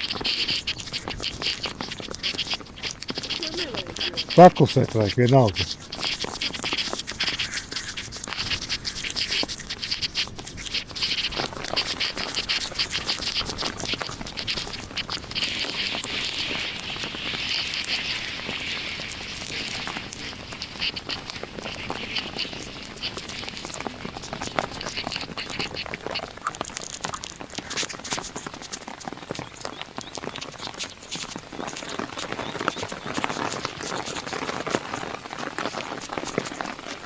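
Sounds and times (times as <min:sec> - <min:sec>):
heavy rain on a car roof: 0:00.0 - 0:07.6, 0:11.2 - 0:37.0.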